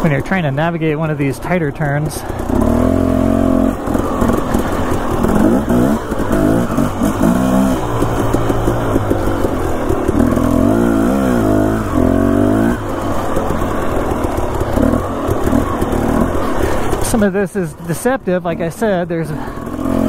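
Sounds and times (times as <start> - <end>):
two-stroke dirt bike engine revving: 0.0 - 20.0.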